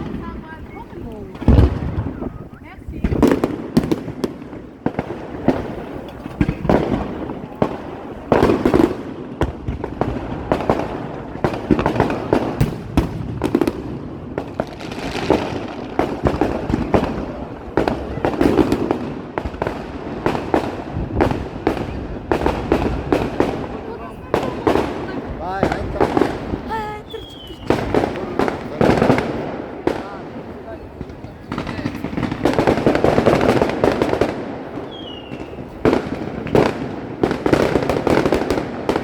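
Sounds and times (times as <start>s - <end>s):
fireworks bursting: 0.0s - 39.0s.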